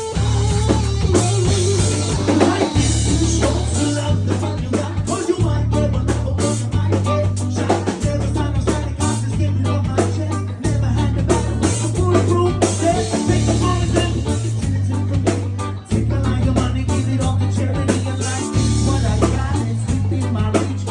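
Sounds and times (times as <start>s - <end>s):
bass guitar: 0.0s - 20.9s
drum kit: 0.0s - 20.9s
electric guitar: 0.0s - 20.9s.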